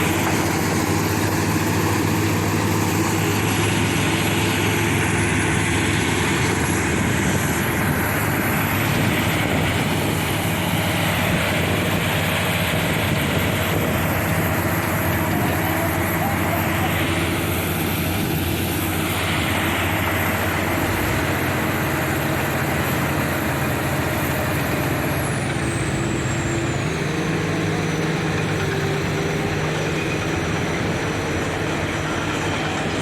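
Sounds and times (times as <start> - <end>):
heavy diesel engines running: 0.0 - 33.0.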